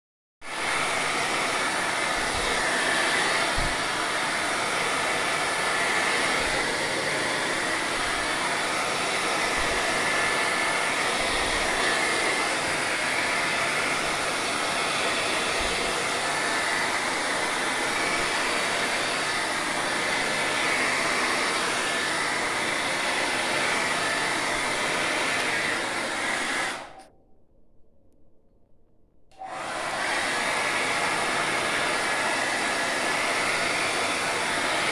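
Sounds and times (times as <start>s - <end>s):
hair dryer blowing: 0.4s - 27.1s, 29.3s - 34.9s.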